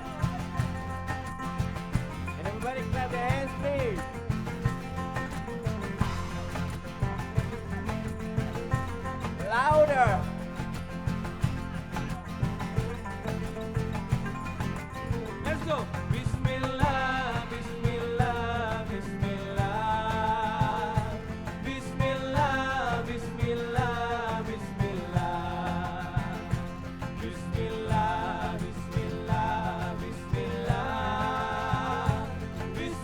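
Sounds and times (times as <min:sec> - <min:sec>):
bass: 0:00.0 - 0:33.0
hand percussion drum strokes: 0:00.0 - 0:33.0.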